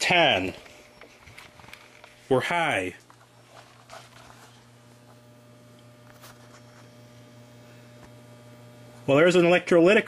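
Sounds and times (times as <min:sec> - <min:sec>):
faint electrical mains hum: 0:00.0 - 0:10.0.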